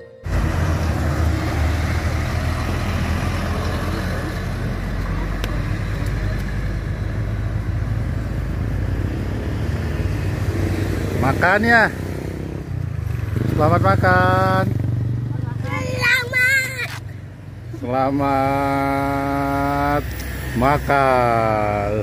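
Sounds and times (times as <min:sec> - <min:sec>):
road traffic rumbling: 0:00.0 - 0:22.0.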